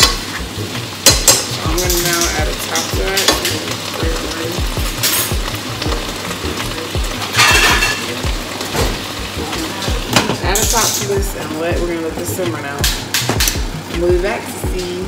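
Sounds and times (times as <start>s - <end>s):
music with deep bass beat: 0.0s - 15.0s
vegetables sizzling in oil: 0.0s - 15.0s.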